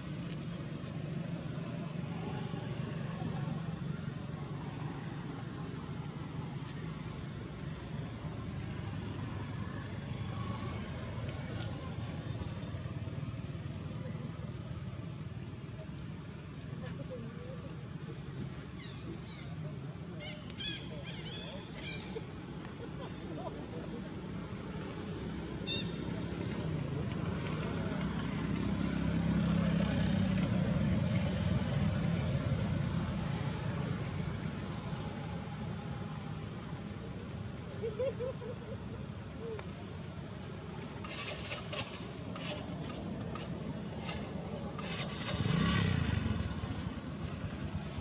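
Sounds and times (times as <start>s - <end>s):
vehicle engine hum: 0.0s - 48.0s.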